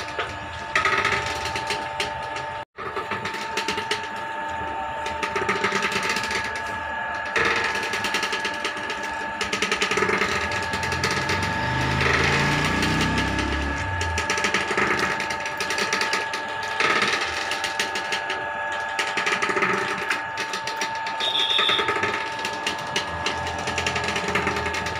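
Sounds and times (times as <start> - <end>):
fast grinding clatter: 0.0 - 24.9
machine whine: 0.0 - 24.9.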